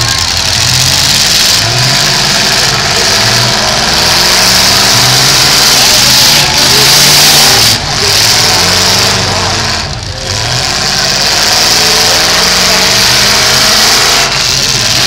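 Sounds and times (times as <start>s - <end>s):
car engine revving hard: 0.0s - 15.0s
loud steady rushing noise: 0.0s - 15.0s.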